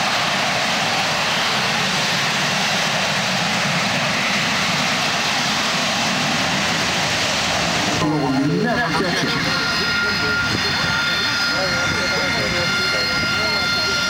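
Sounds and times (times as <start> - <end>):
jet engine hovering: 0.0 - 14.0.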